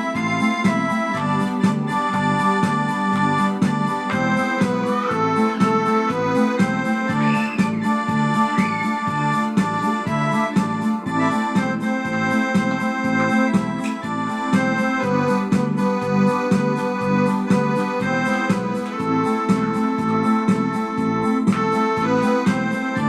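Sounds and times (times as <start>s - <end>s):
electronic keyboard organ music: 0.0s - 23.0s.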